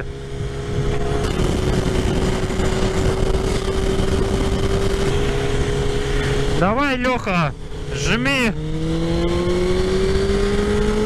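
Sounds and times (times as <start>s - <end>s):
motorcycle engine cruising: 0.0s - 11.0s
wind rush: 0.0s - 11.0s.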